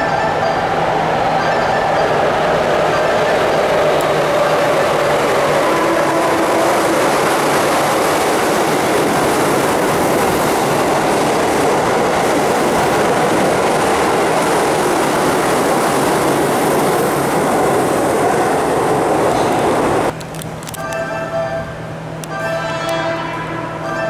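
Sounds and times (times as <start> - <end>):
train passing through station: 0.0 - 24.0.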